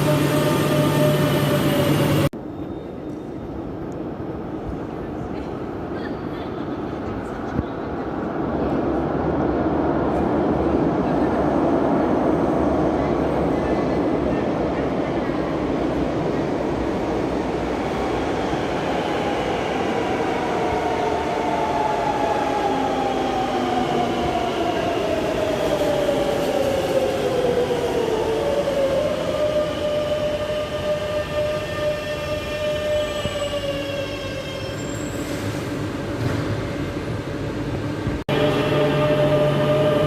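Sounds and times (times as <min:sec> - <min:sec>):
rumble of train cars: 0:00.0 - 0:40.0.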